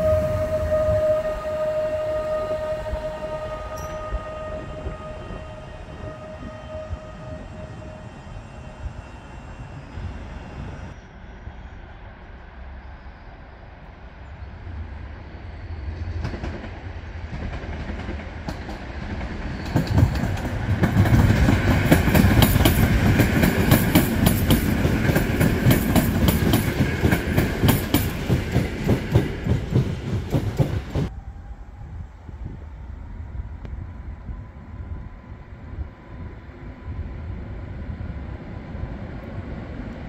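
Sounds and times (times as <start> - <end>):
train passing: 0.0 - 40.0.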